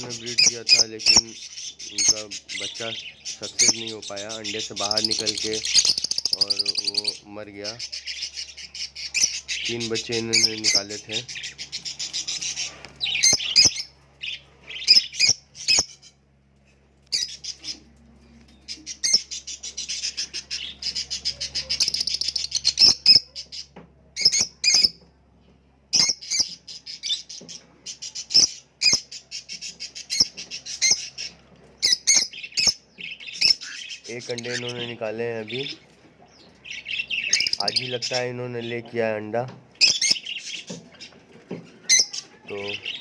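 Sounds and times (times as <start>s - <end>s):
cockatiels chirping and squawking: 0.0s - 16.2s, 17.1s - 25.0s, 26.0s - 38.8s, 39.8s - 43.0s.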